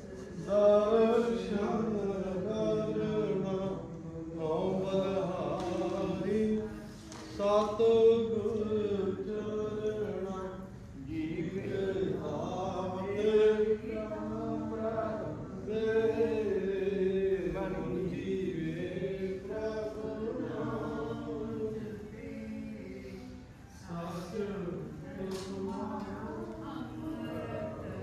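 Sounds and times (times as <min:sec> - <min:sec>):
group chanting devotional verse: 0:00.0 - 0:28.0.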